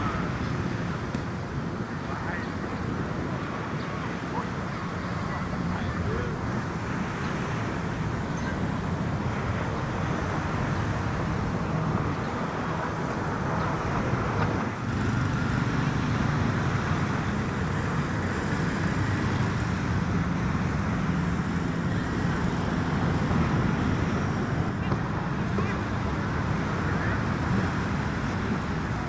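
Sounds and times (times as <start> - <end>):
road traffic hum: 0.0 - 29.0.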